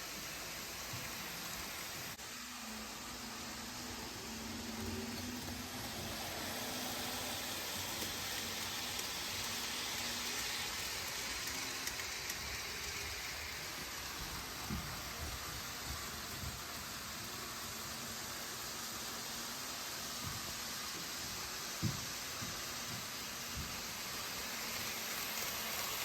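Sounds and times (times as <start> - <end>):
model train whirring: 0.0 - 26.0.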